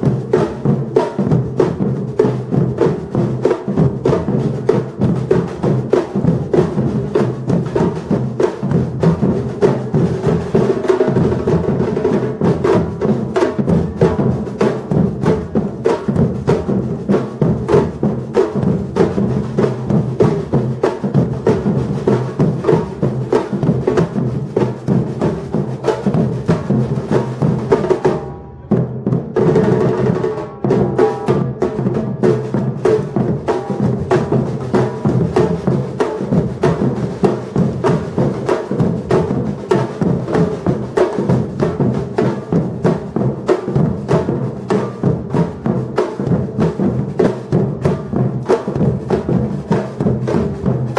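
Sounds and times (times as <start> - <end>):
drum ensemble playing fast rhythm: 0.0 - 50.9.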